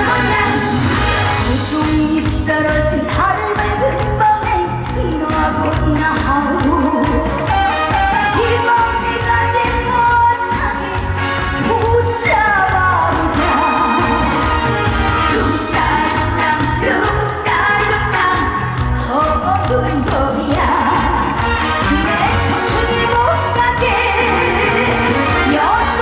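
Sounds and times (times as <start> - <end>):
band with steady drum beat: 0.0 - 26.0
woman singing: 0.0 - 26.0.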